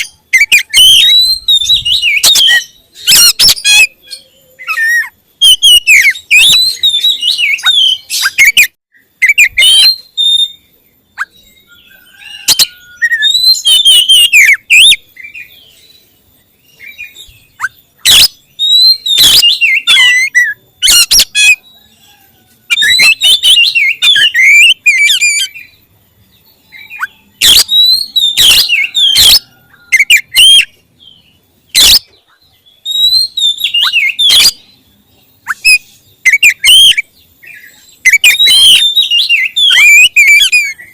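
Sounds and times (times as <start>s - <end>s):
bird singing whistled phrases: 0.0s - 16.0s, 16.6s - 25.8s, 26.6s - 34.8s, 35.4s - 40.9s.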